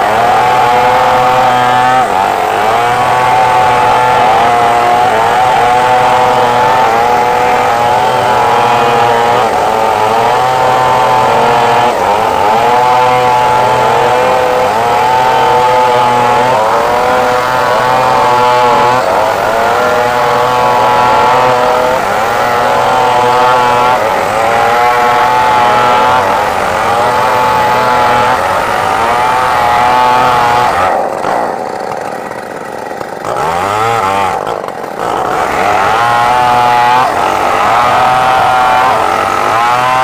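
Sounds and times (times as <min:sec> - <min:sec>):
chainsaw cutting timber under load: 0:00.0 - 0:40.0
chainsaw running steady pitch: 0:00.0 - 0:40.0.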